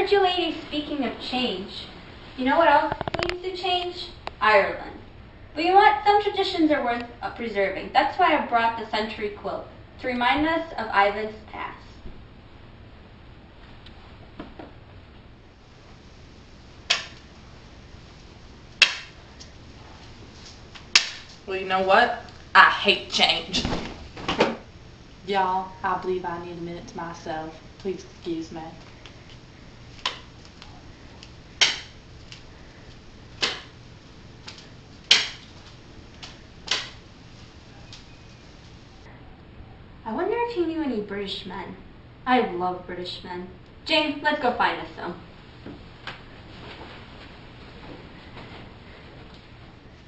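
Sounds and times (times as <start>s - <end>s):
faint room hiss: 0.0s - 50.0s.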